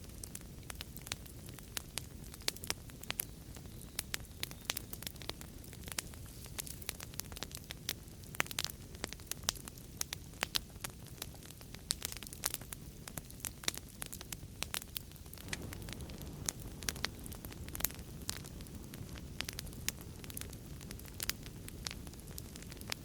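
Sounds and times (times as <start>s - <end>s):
low rumble of burning: 0.0s - 23.0s
wood fire crackling: 0.0s - 23.0s.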